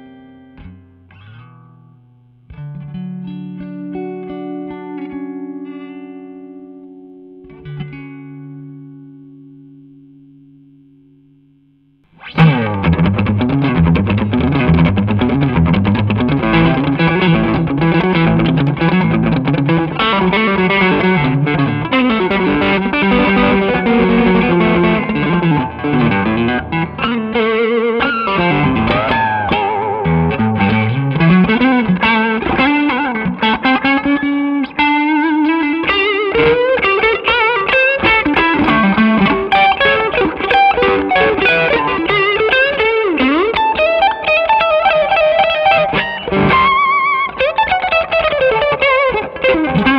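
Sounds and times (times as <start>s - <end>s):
overdriven electric guitar lead: 0.0s - 49.9s.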